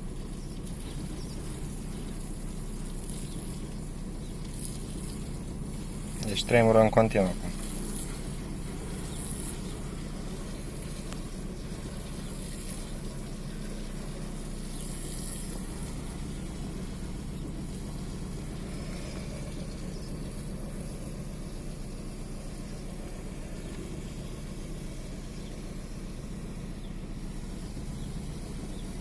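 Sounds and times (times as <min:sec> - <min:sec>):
diesel engine idling roughly: 0:00.0 - 0:29.0.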